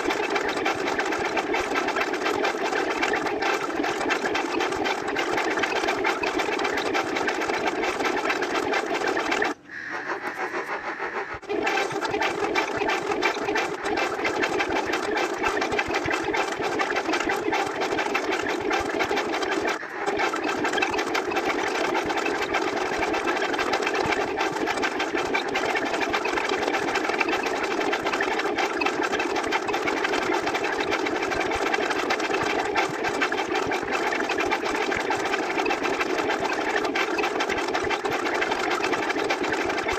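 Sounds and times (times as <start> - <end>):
rapid buzzing rattle: 0.0 - 39.9.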